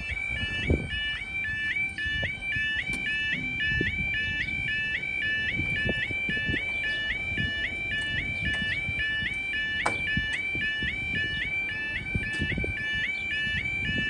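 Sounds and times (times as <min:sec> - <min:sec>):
level crossing warble alarms: 0:00.0 - 0:14.0.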